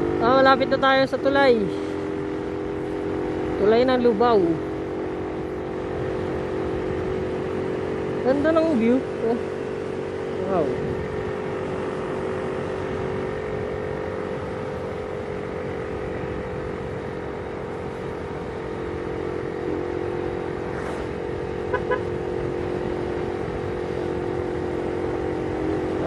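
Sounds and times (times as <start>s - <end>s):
motorcycle engine hum: 0.0s - 26.0s
road noise: 0.0s - 26.0s.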